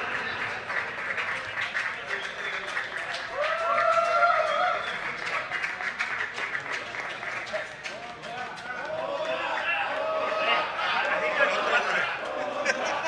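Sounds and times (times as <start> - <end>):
audience clapping: 0.0 - 13.0.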